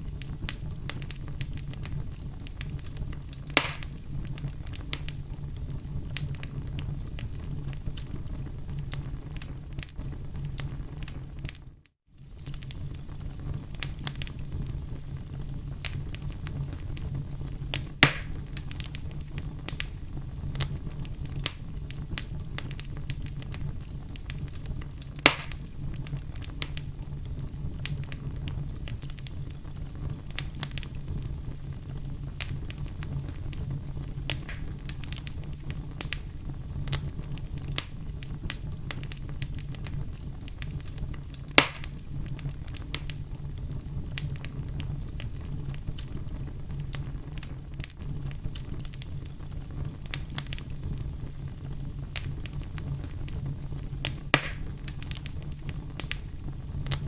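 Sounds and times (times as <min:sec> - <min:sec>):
fire crackling: 0:00.0 - 0:57.0
fire flames rumbling: 0:00.0 - 0:57.0
loud pops from fire: 0:00.0 - 0:57.0.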